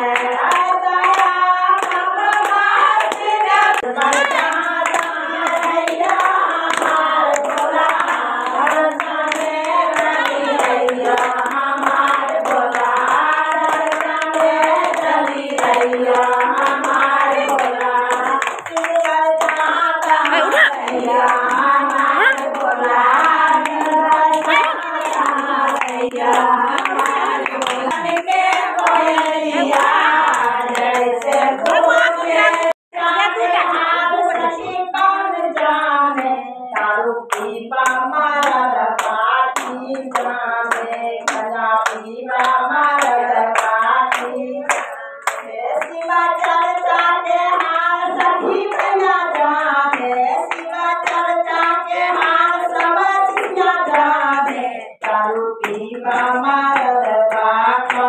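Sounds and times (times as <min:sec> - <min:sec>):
hand clapping: 0:00.0 - 0:32.8, 0:34.2 - 0:58.0
women singing together: 0:00.0 - 0:58.0.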